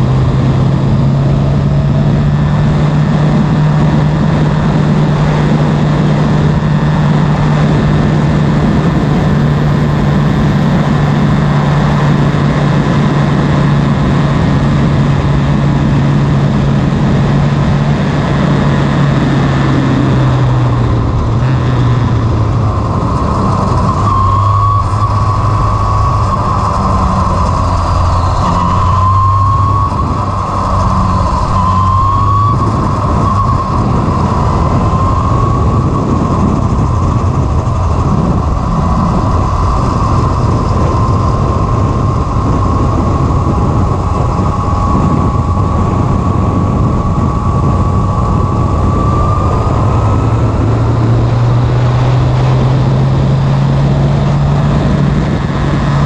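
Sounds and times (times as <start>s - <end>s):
racing car engine at speed: 0.0s - 56.0s
wind rush: 0.0s - 56.0s.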